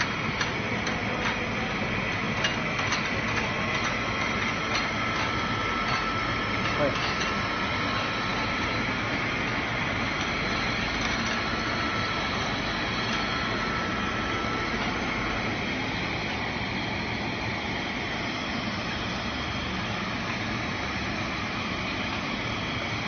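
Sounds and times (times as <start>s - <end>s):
machine line hum: 0.0s - 23.0s
thin machine whine: 0.0s - 23.0s.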